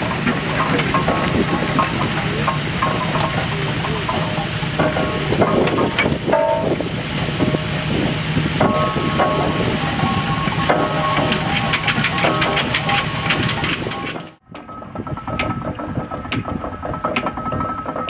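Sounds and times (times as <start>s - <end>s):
mechanical clanks and knocks: 0.0s - 18.0s
steam engine running: 0.0s - 18.0s.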